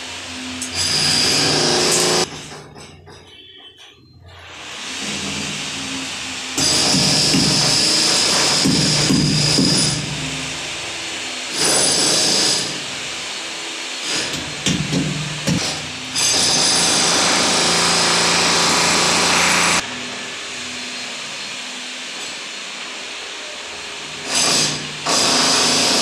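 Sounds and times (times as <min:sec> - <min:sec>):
power tool running: 0:00.0 - 0:02.3, 0:04.5 - 0:26.0.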